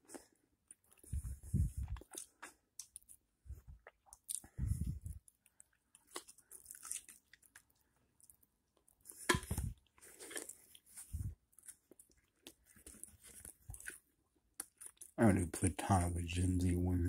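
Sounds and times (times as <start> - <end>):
person chewing and crunching food: 0.0 - 15.2.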